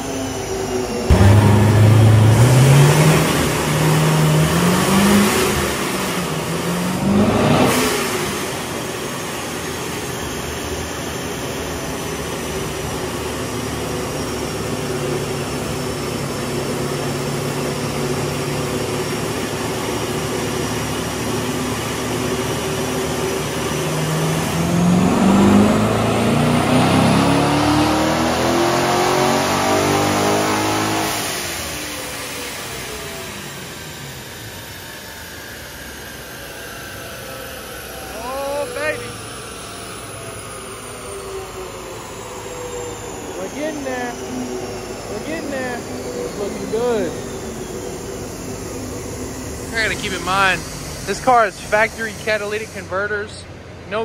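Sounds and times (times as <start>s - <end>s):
car engine revving on dyno: 0.0s - 54.0s
supercharger whine: 0.0s - 54.0s.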